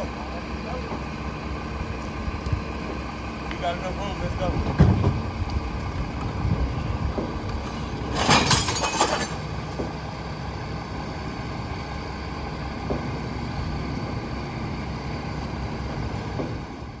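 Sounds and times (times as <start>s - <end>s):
garbage truck diesel engine: 0.0s - 17.0s.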